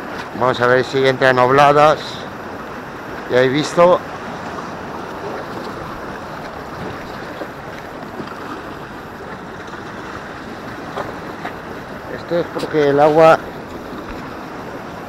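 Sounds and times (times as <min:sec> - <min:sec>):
sea washing against rocks: 0:00.0 - 0:15.0.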